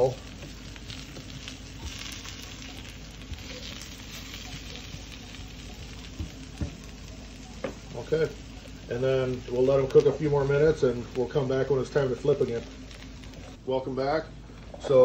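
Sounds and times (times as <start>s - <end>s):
sizzling on a griddle: 0.0s - 13.6s.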